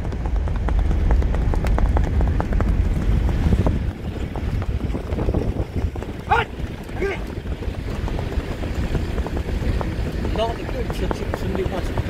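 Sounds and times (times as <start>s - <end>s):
horse hoofbeats on hard ground: 0.0s - 12.0s
wind noise on microphone: 0.0s - 12.0s.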